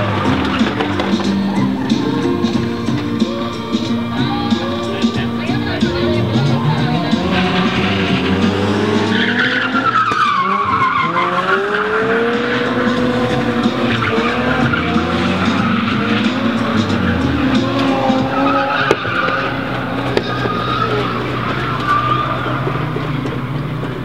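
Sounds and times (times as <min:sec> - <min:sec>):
car engines revving: 0:00.0 - 0:24.0
tyres squealing: 0:00.0 - 0:24.0.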